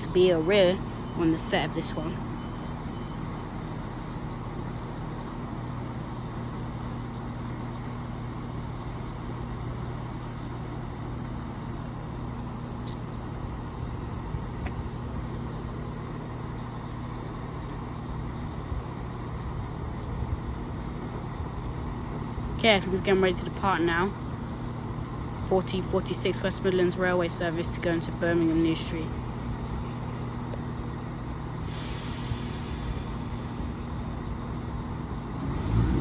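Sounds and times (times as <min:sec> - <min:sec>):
diesel train engines idling: 0:00.0 - 0:36.0.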